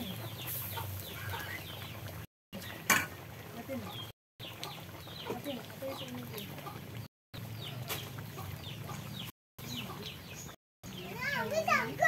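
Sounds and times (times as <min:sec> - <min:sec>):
chickens clucking: 0:00.0 - 0:10.6.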